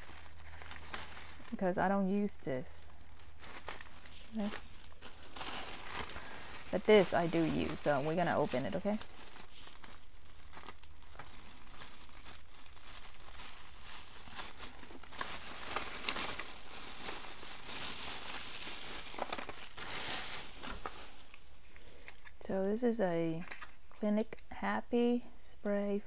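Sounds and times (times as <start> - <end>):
packaging crinkling: 0.0 - 22.4.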